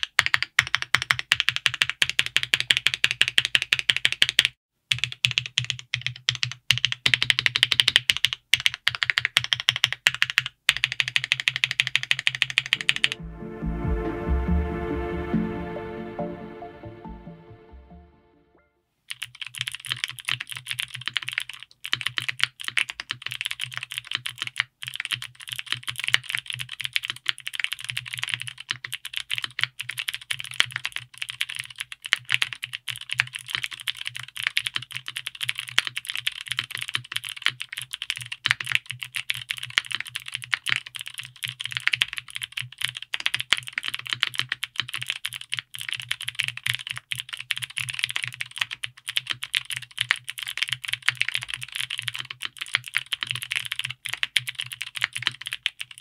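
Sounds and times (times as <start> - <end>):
mechanical keyboard typing: 0.0 - 13.2, 19.1 - 56.0.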